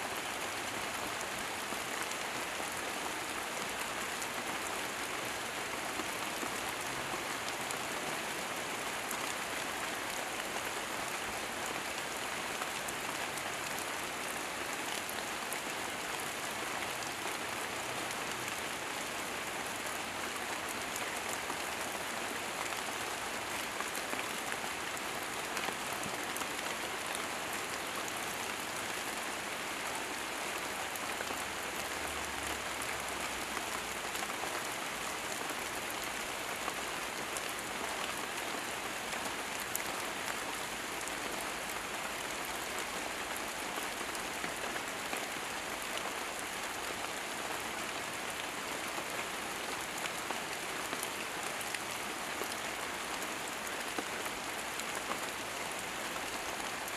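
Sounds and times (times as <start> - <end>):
rain falling on leaves: 0.0 - 56.9.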